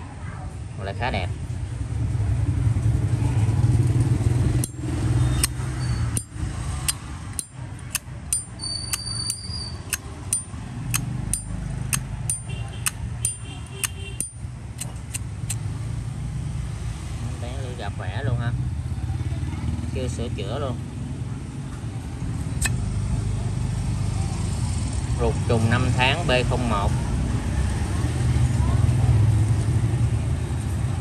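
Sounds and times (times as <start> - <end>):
low rumble of road traffic: 0.0 - 31.0.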